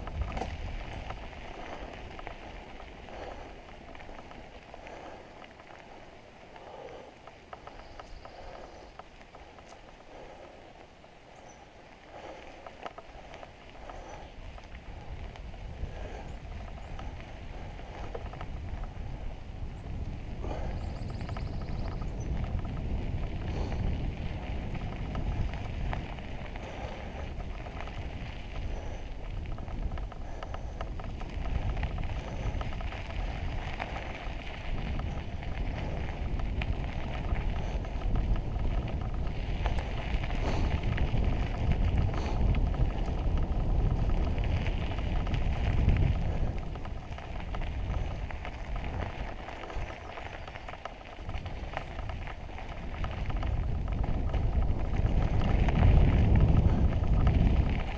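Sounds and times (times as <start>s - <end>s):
wind on microphone: 0.0s - 10.6s, 11.3s - 57.9s
bike rattling: 0.0s - 57.9s
tyres crackling on gravel: 0.0s - 57.9s.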